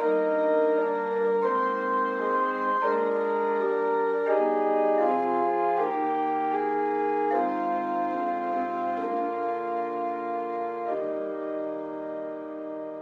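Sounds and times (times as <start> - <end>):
pipe organ chords: 0.0 - 13.0.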